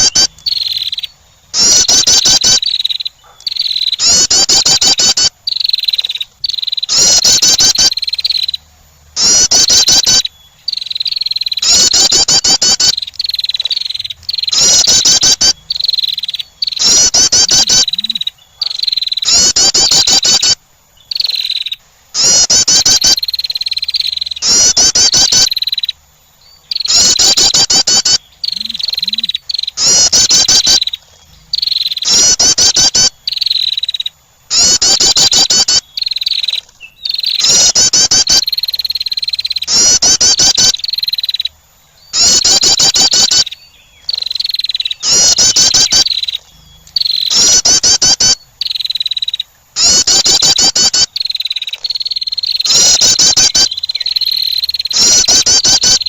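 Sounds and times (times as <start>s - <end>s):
wren chattering trill: 0.0s - 8.6s, 9.2s - 26.0s, 26.6s - 56.0s.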